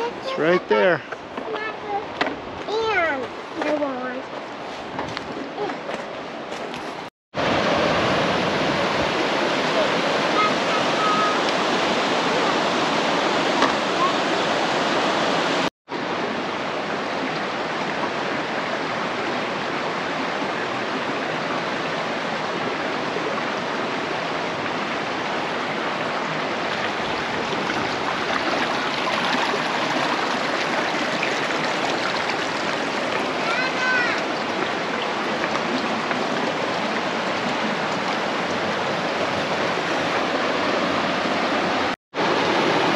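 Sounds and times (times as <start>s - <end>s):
river rapids rushing over boulders: 4.4s - 42.9s.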